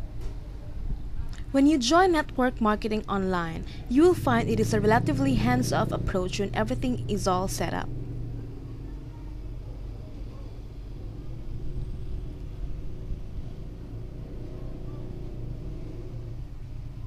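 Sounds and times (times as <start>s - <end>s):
low rumble and hum: 0.0s - 17.0s.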